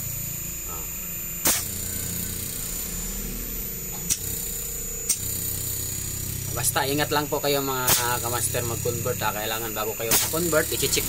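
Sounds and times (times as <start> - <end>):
fan motor humming: 0.0 - 11.0.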